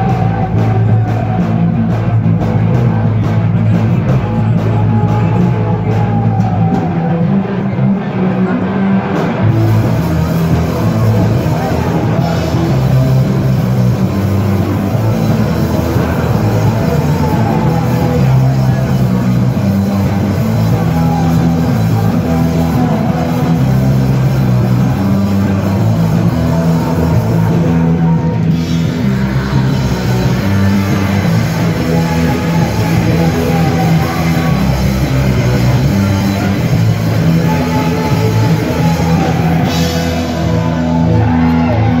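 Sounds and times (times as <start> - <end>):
punk rock band playing loudly: 0.0 - 42.0.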